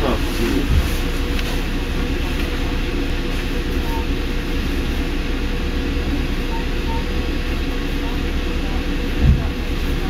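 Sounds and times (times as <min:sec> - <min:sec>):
bus engine hum: 0:00.0 - 0:10.0
road noise: 0:00.0 - 0:10.0.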